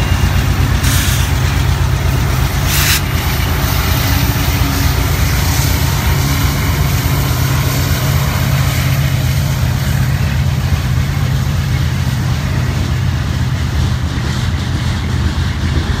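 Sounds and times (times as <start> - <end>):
diesel locomotive engine hum: 0.0 - 16.0
freight cars rolling on rails: 0.0 - 16.0.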